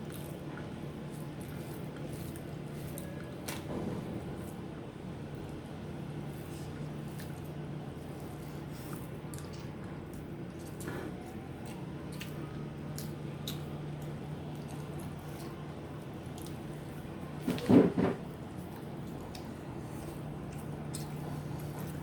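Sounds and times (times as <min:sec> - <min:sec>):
chewing: 0:00.0 - 0:03.7, 0:06.3 - 0:17.6, 0:18.5 - 0:22.0
steady low hum: 0:00.0 - 0:22.0
wet squishes of food: 0:00.0 - 0:22.0.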